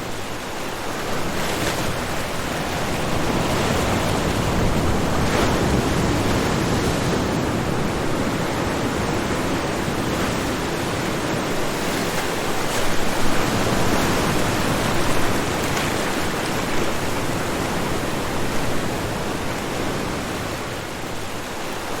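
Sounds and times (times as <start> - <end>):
ocean waves washing ashore: 0.0 - 22.0.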